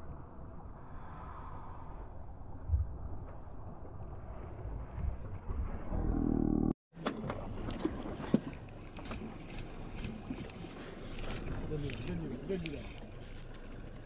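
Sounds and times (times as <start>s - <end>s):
boat engine rumbling: 2.3s - 14.0s.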